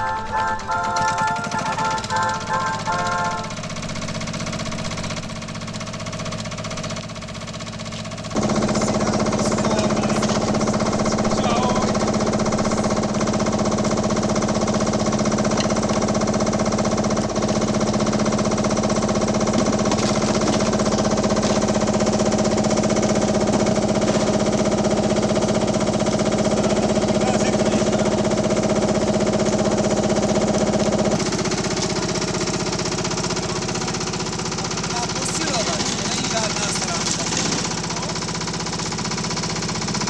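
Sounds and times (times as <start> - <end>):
tractor engine idling: 0.0 - 40.0.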